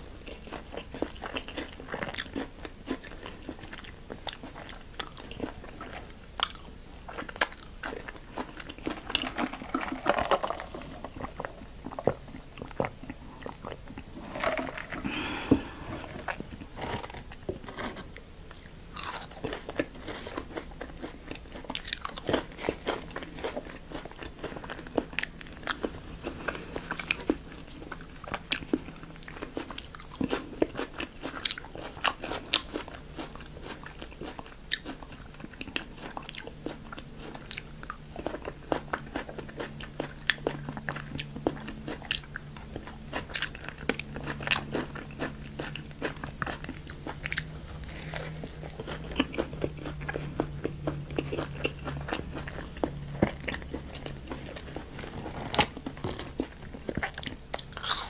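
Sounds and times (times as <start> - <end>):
crunchy chewing: 0.0 - 58.0.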